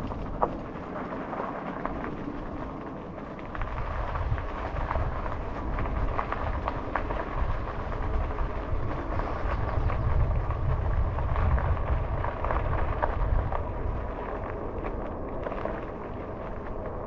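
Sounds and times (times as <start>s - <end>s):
bike rolling on trail: 0.0s - 17.0s
wind rumbling on microphone: 0.0s - 17.0s.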